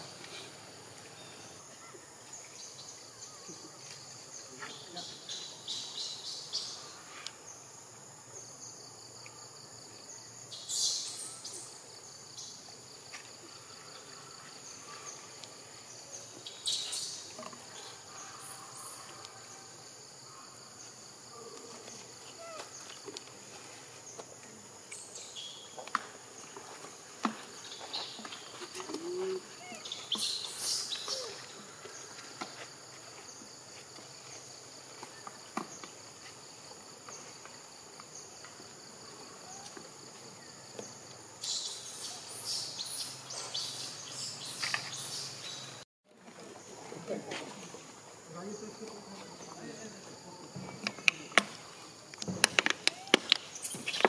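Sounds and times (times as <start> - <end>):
high-pitched insect chorus: 0.0 - 45.8, 46.4 - 54.0.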